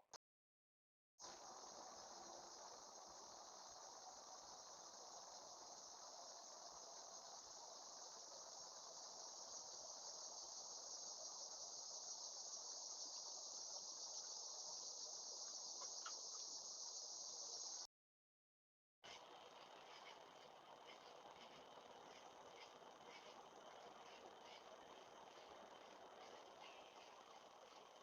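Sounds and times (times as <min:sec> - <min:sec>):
insects trilling: 0:01.2 - 0:17.9, 0:19.1 - 0:28.0.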